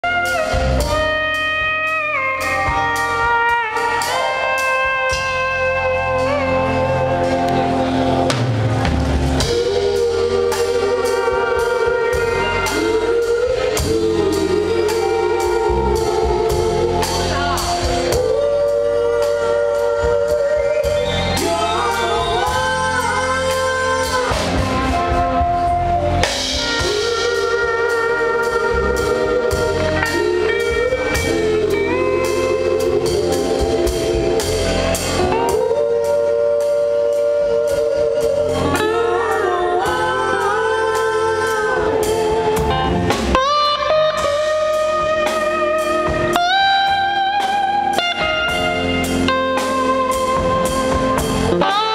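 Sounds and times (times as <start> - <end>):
bass and drums: 0.0 - 51.9
electric guitar lead notes: 0.0 - 51.9.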